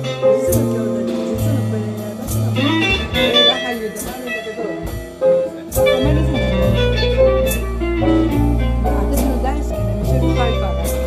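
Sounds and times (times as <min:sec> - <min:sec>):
double bass line: 0:00.0 - 0:11.0
guitar melody: 0:00.0 - 0:11.0.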